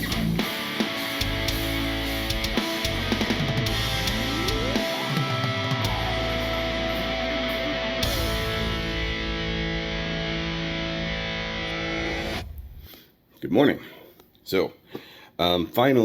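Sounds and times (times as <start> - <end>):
rock music: 0.0 - 12.9.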